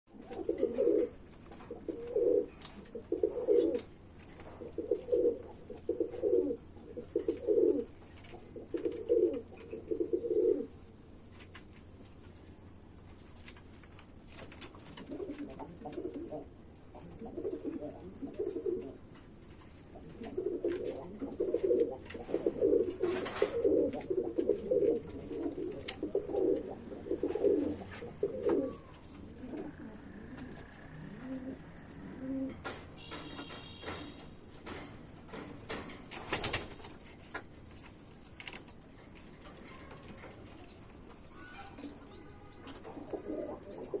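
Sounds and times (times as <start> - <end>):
pigeons cooing: 0.1 - 10.8, 14.9 - 19.1, 19.8 - 36.8, 39.4 - 44.0.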